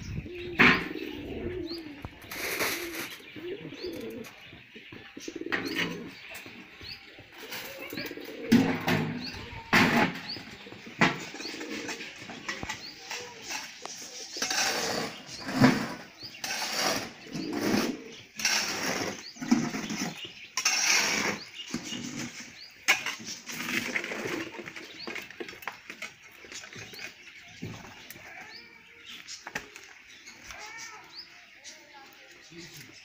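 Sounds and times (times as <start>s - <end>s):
pigeons cooing: 0.0s - 31.2s.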